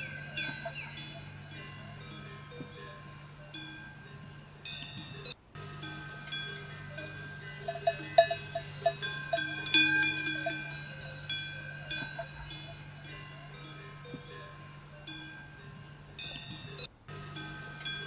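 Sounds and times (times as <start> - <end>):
small metal bells clanking: 0.0 - 18.0
steady low hum: 0.0 - 18.0.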